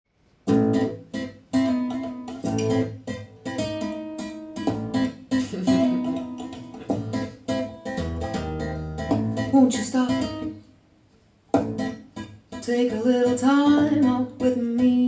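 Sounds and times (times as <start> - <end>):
plucked acoustic guitar chords: 0.5 - 10.7, 11.5 - 15.0.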